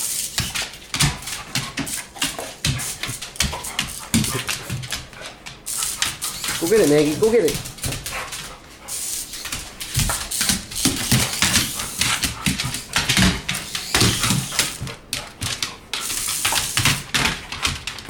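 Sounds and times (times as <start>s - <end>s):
dog claws clattering on hard floor: 0.3s - 8.6s, 9.3s - 18.0s.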